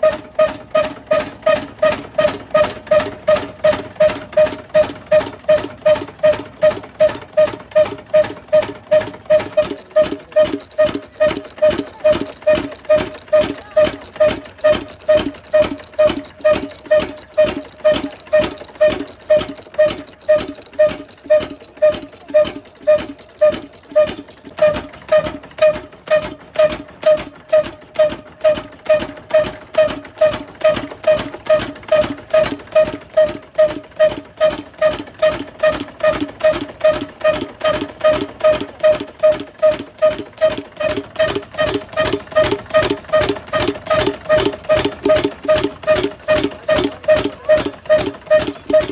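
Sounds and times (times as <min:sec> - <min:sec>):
diesel engine ticking over: 0:00.0 - 0:48.9.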